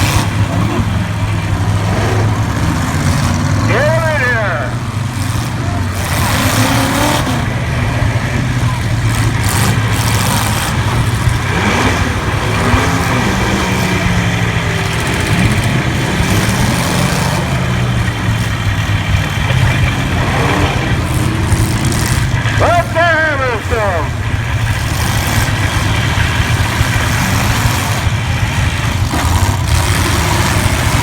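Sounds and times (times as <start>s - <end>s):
car engines droning: 0.0s - 31.0s
engines revving: 0.0s - 31.0s.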